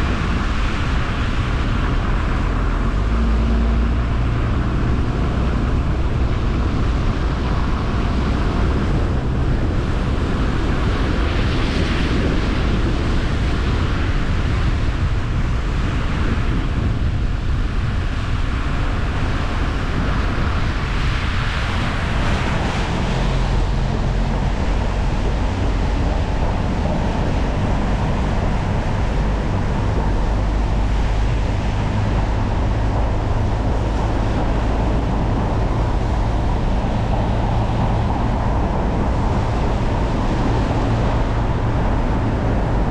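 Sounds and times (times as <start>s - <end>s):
car engine and road rumble: 0.0s - 42.9s
tyres and wind hissing: 0.0s - 42.9s.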